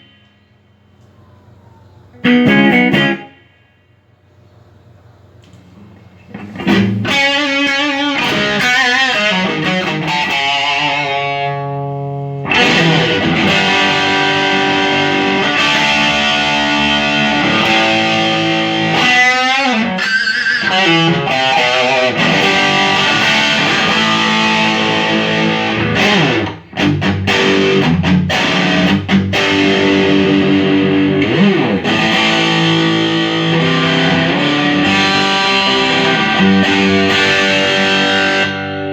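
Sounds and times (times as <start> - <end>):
distorted electric guitar: 0.0 - 0.4, 2.2 - 3.6, 6.3 - 38.9.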